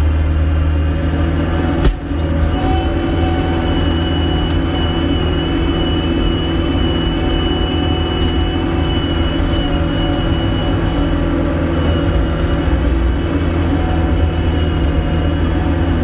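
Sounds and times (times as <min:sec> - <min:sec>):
skid steer engine running: 0:00.0 - 0:16.0
high whine: 0:01.6 - 0:16.0.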